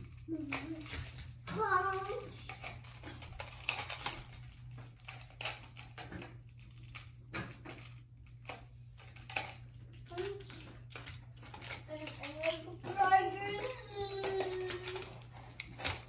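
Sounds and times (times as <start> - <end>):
plastic building tiles clicking: 0.0 - 16.0.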